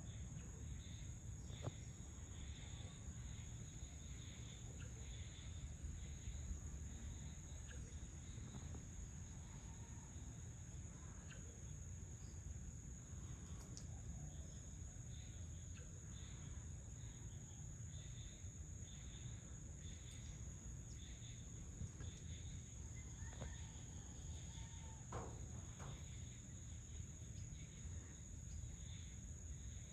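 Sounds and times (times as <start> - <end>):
insect chirps: 0.0 - 29.9
insects trilling: 0.0 - 29.9.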